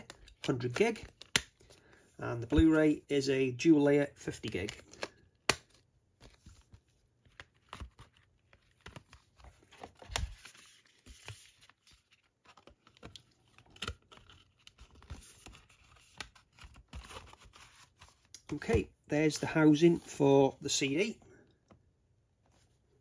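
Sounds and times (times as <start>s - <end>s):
card and paper handling: 0.0s - 3.0s, 4.2s - 21.1s.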